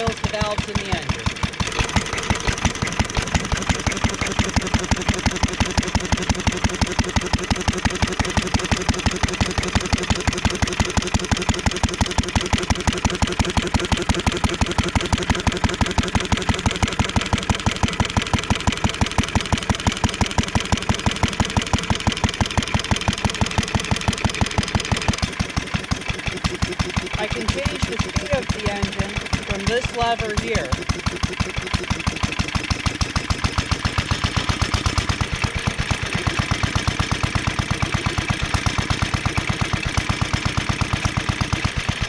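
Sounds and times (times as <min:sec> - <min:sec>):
stationary engine running steadily: 0:00.0 - 0:42.0.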